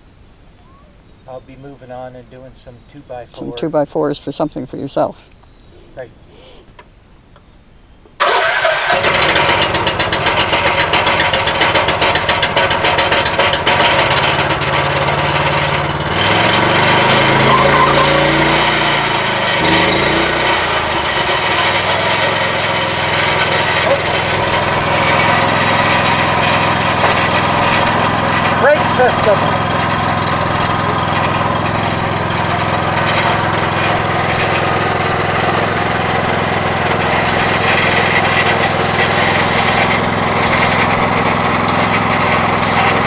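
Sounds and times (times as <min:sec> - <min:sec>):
sawmill engine running: 0:08.2 - 0:43.0.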